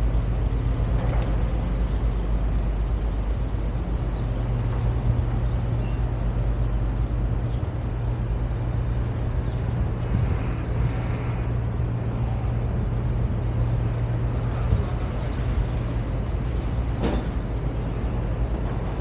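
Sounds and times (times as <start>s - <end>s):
road rumble: 0.0s - 19.0s
vehicle engine hum: 0.0s - 19.0s.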